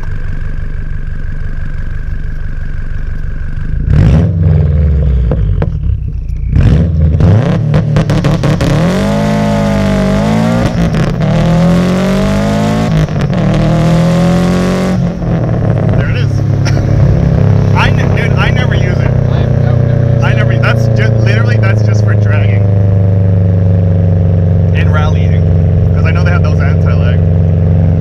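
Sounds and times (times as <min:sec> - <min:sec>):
car accelerating and shifting: 0:00.0 - 0:28.0
car engine idling and revving: 0:00.0 - 0:28.0.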